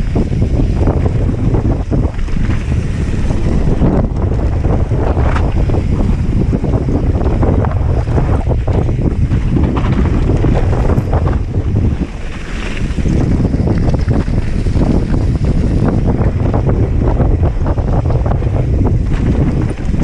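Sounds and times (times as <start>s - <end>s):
bike parts rattling: 0.0s - 16.8s, 18.0s - 20.0s
wind buffeting microphone: 0.0s - 20.0s.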